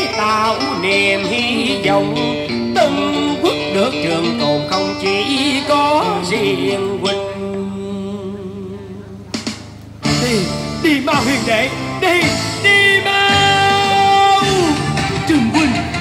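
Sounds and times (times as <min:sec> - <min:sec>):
person singing with wide vibrato: 0:00.0 - 0:09.3, 0:10.1 - 0:16.0.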